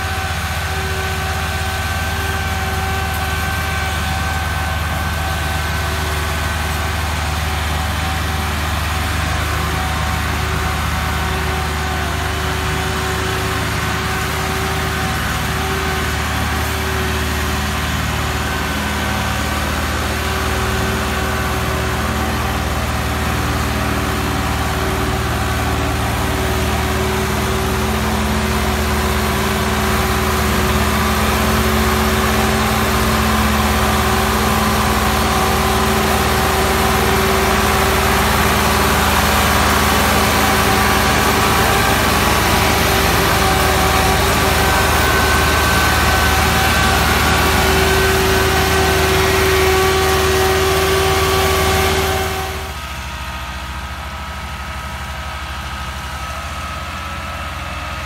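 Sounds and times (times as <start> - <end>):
tractor diesel engines droning: 0.0 - 58.0.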